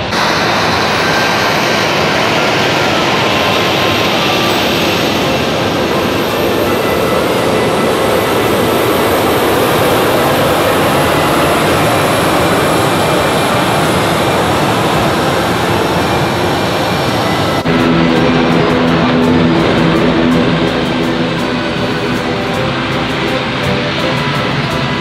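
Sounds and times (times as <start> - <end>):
jet engines taxiing: 0.0 - 25.0.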